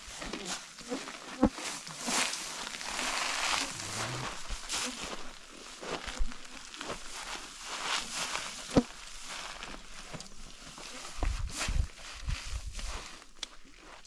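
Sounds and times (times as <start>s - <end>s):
dry grain stalks rustling: 0.1s - 14.0s.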